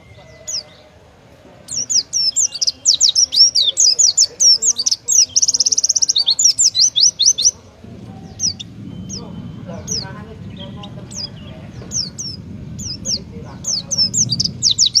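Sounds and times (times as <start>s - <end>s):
bird singing whistled notes: 1.7s - 7.6s, 8.2s - 15.0s.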